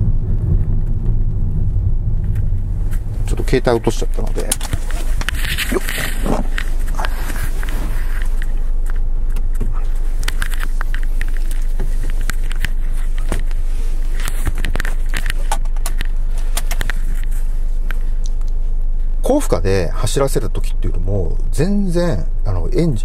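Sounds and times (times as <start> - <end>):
low car cabin rumble: 0.0 - 23.0.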